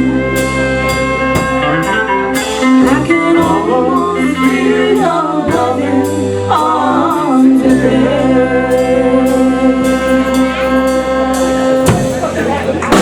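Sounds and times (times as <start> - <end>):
bass and drums: 0.0 - 13.0
person singing: 1.7 - 13.0.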